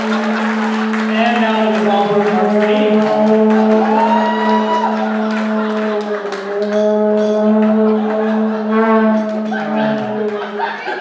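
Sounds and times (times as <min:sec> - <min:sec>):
vuvuzela droning: 0:00.0 - 0:10.7.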